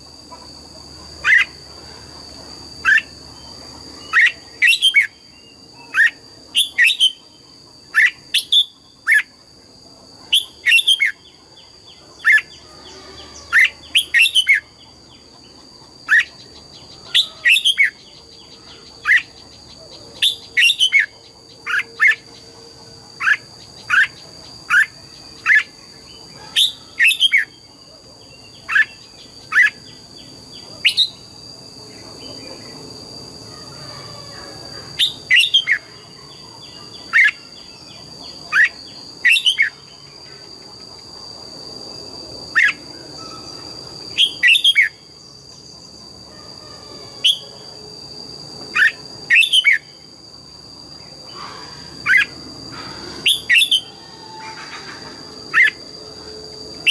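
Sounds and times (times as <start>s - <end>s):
steady high-pitched whine: 0.0s - 56.9s.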